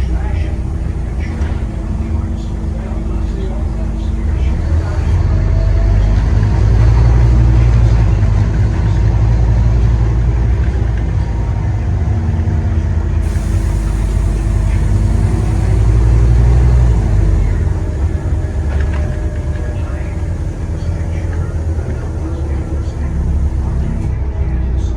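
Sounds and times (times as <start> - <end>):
road noise: 0.0 - 24.2
bus diesel engine rumbling: 0.0 - 24.4.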